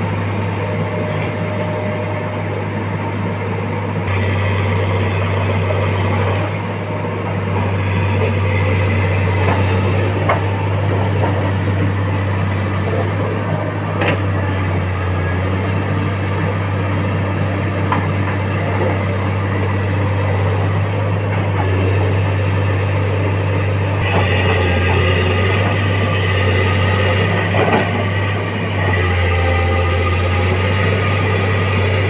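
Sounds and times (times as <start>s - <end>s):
excavator diesel engine running: 0.0s - 32.0s
hydraulic whine: 0.0s - 32.0s.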